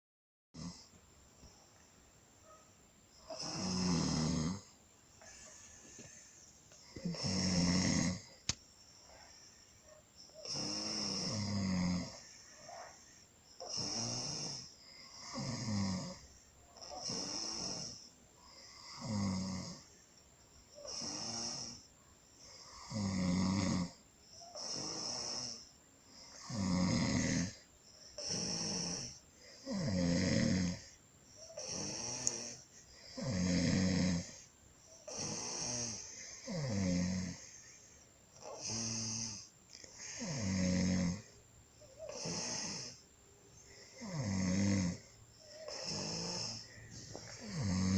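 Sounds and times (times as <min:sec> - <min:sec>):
person snoring: 0:00.6 - 0:00.9, 0:03.3 - 0:06.2, 0:06.8 - 0:08.5, 0:10.4 - 0:13.0, 0:13.6 - 0:20.0, 0:20.8 - 0:27.6, 0:28.2 - 0:43.0, 0:43.6 - 0:47.9.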